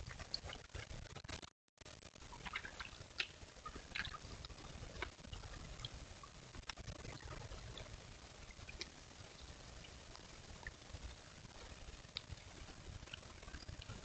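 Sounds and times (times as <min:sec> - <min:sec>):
creek trickling: 0:02.3 - 0:14.0.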